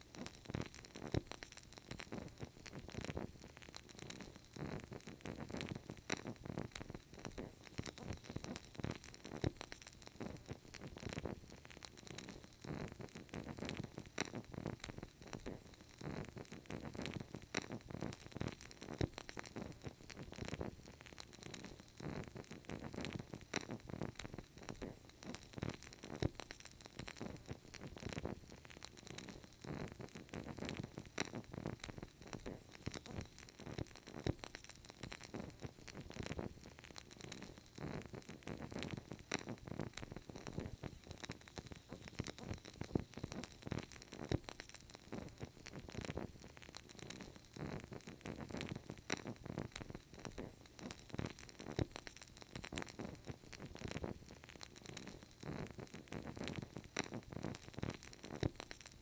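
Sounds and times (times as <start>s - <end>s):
candle wick crackling: 0.0s - 59.0s.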